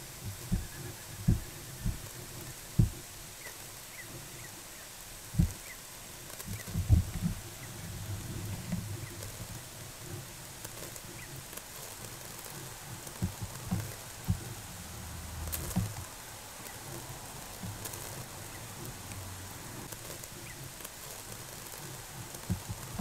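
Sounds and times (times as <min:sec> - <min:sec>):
droplets pattering on plants: 0:00.0 - 0:04.0, 0:04.9 - 0:23.0
sprinklers spraying water: 0:00.0 - 0:23.0.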